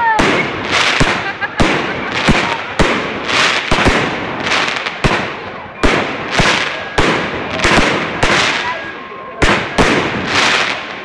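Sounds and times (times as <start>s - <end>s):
fireworks bangs with hiss: 0.0s - 11.0s.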